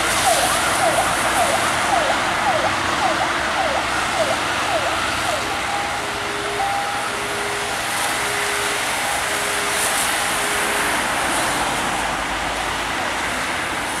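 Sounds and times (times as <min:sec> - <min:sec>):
fire engine two-tone siren: 0:00.0 - 0:14.0
traffic on wet road: 0:00.0 - 0:14.0.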